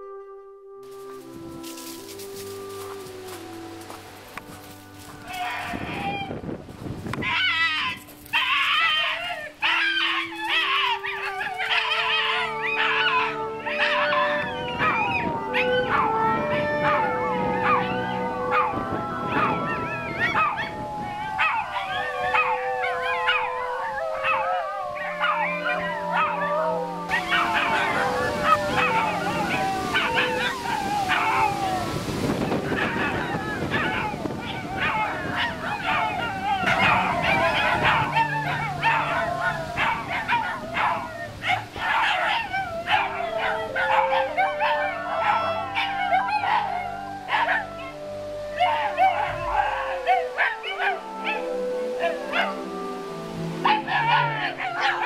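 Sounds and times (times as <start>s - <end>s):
background music: 0.0s - 55.0s
dogs howling and yelping: 5.2s - 6.4s, 7.1s - 55.0s.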